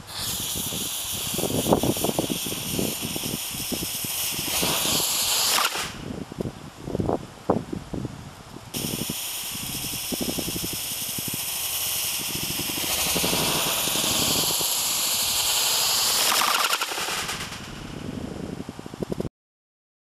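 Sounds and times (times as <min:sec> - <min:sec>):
rocket crackling hiss: 0:00.0 - 0:07.6, 0:08.3 - 0:19.3.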